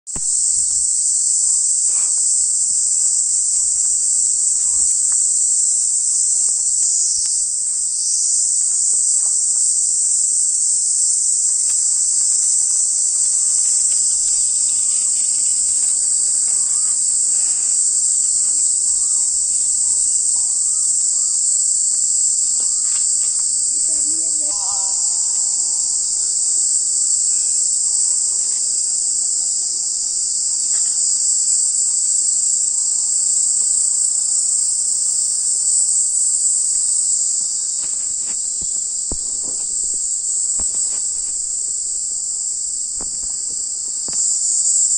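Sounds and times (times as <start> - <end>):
high-pitched insect buzz: 0.1 - 29.1, 30.6 - 44.9.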